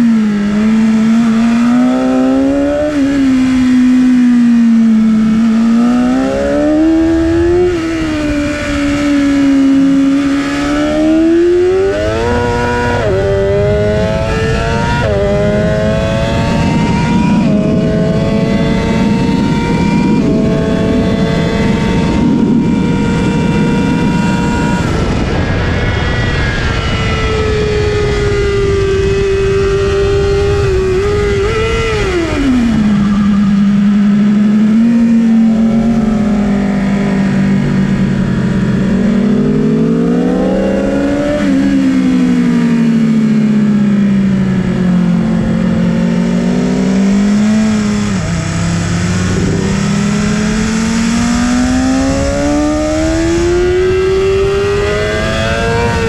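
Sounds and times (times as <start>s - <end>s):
motorcycle engine at high revs: 0.0s - 56.0s
wind rush on microphone: 0.0s - 56.0s.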